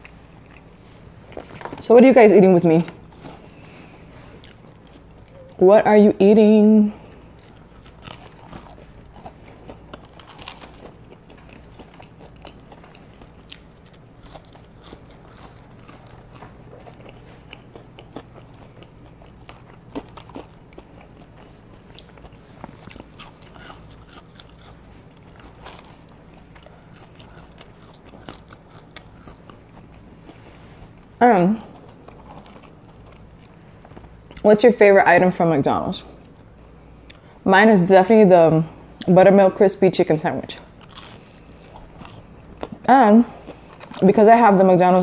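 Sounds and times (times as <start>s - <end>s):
chewing and crunching food: 0.0s - 5.6s, 6.2s - 34.9s, 36.1s - 37.4s, 38.7s - 45.0s.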